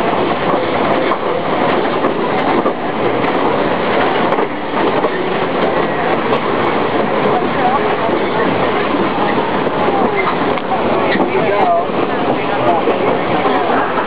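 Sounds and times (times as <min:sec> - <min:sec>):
train wheels rumbling and rattling: 0:00.0 - 0:14.0.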